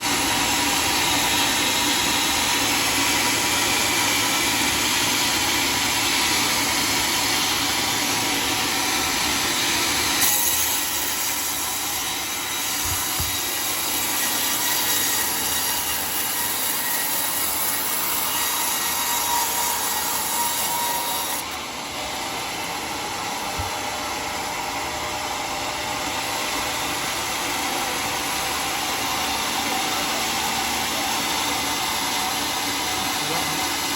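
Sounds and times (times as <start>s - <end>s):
circular saw cutting log: 0.0s - 33.9s.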